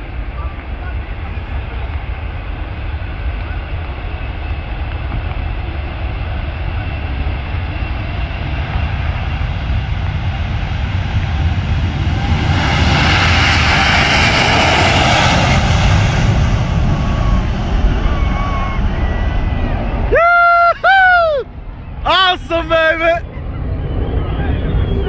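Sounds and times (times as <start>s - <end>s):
jet engines at takeoff: 0.0s - 25.0s.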